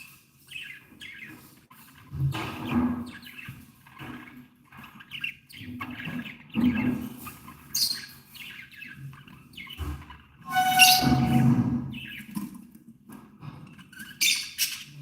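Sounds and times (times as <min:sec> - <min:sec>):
budgerigars chirping and chattering: 0:00.0 - 0:15.0.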